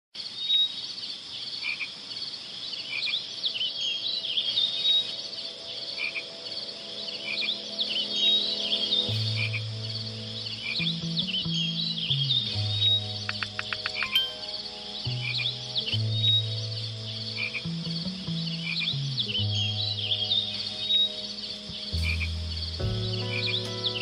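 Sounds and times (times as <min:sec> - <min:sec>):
chirping and trilling animal calls: 0:01.6 - 0:22.2
soft music notes: 0:03.6 - 0:24.0.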